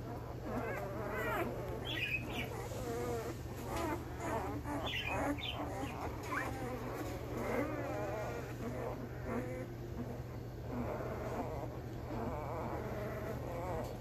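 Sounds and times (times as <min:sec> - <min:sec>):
puppies whining and squeaking: 0:00.0 - 0:14.0
steady low hum: 0:00.0 - 0:14.0.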